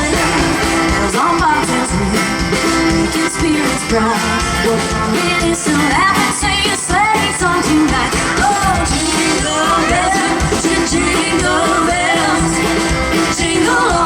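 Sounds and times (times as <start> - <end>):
live band playing: 0.0 - 14.0
woman singing lead: 0.0 - 14.0.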